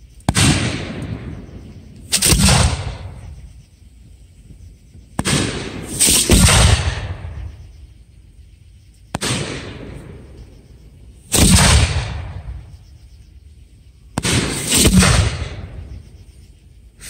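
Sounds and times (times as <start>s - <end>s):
fireworks bursting: 0.0s - 8.0s, 9.0s - 16.4s.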